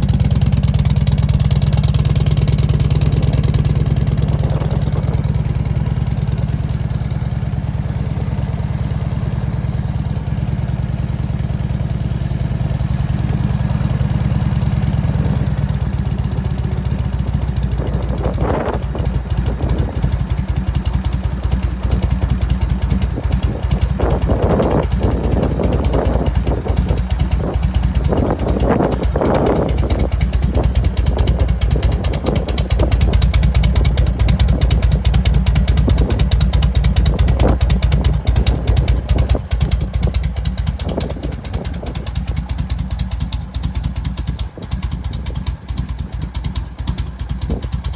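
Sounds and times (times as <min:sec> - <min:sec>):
rough exhaust bursts: 0:00.0 - 0:11.3, 0:12.4 - 0:43.5
motorcycle engine idling: 0:00.0 - 0:47.9.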